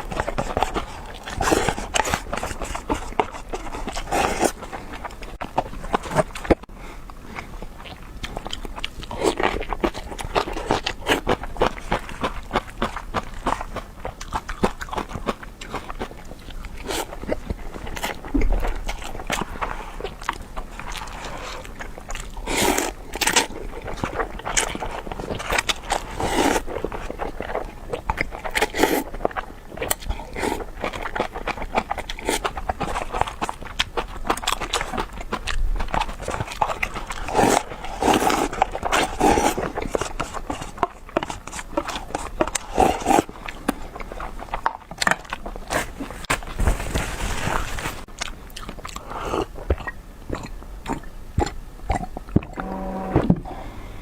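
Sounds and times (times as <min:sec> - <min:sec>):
person biting and chewing food: 0:00.0 - 0:53.8.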